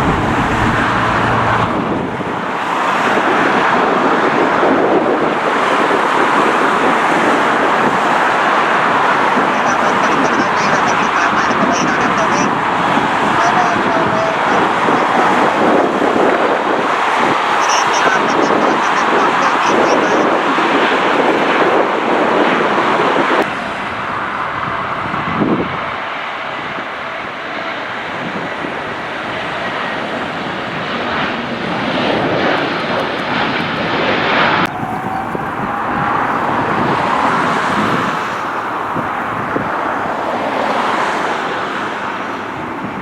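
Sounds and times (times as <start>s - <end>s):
jet engine whine: 0.0s - 43.0s
jet engines rushing: 0.0s - 43.0s.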